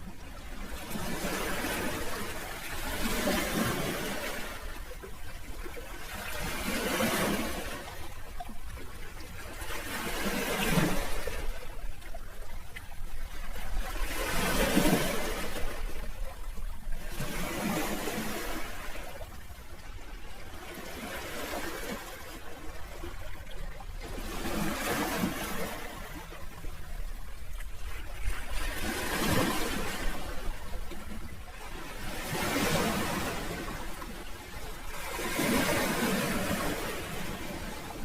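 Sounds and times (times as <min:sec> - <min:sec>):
sea waves washing onto shore: 0:00.0 - 0:38.0.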